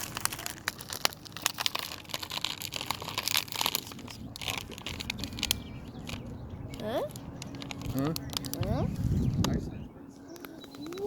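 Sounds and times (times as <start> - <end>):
crinkling and crackling rustle: 0.0 - 11.0.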